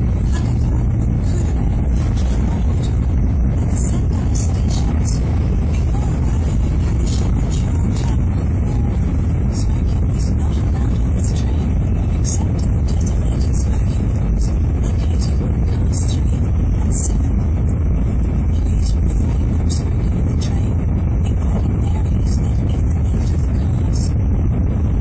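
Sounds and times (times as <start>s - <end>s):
train cabin low rumble: 0.0s - 25.0s.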